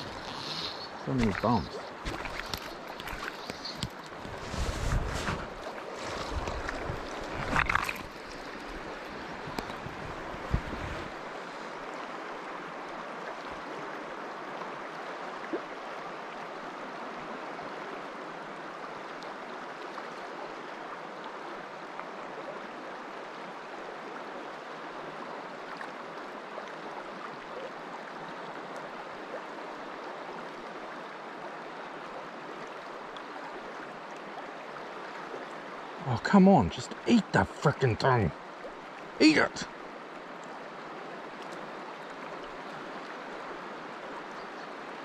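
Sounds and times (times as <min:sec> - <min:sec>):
river current rushing: 0:00.0 - 0:45.0.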